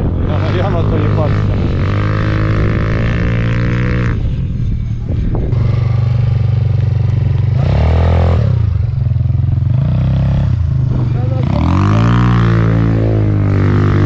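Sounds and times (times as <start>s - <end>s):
quad bike engine revving: 0.0s - 4.4s, 5.1s - 14.0s.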